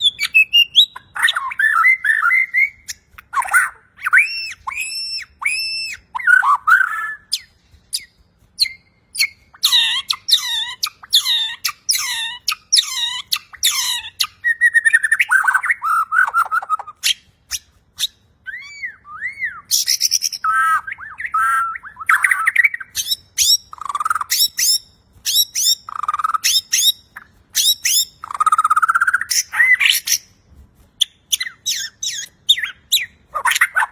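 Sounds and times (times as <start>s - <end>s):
songbird singing whistles and trills: 0.0s - 30.4s, 31.0s - 33.9s.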